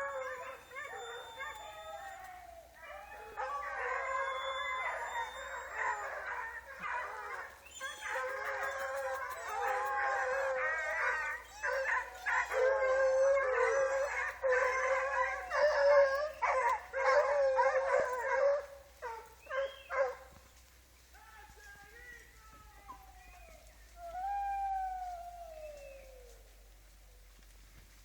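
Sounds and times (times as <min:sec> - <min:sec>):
dogs howling and baying: 0:00.0 - 0:20.4, 0:21.2 - 0:26.8.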